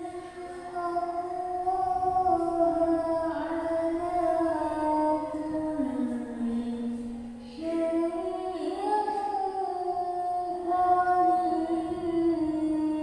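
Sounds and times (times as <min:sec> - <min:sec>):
woman chanting into a microphone: 0:00.0 - 0:13.0.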